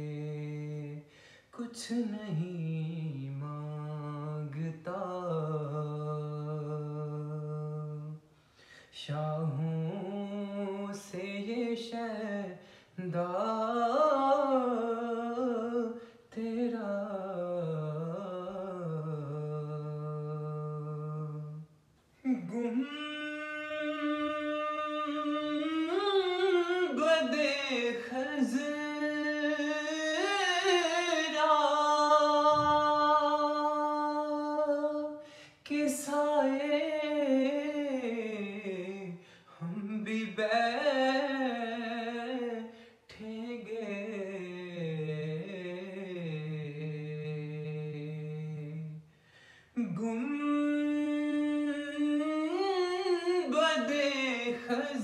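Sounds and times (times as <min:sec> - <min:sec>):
man singing unaccompanied: 0:00.0 - 0:49.1, 0:49.7 - 0:55.0.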